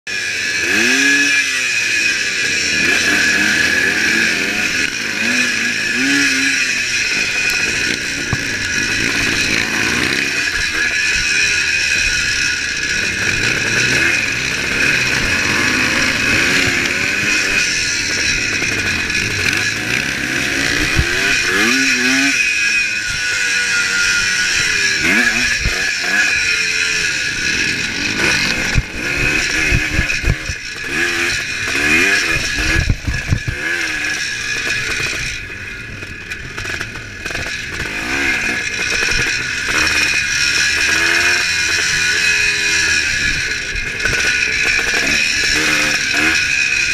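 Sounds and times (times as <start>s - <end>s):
motorcycle engine revving: 0.1s - 46.9s.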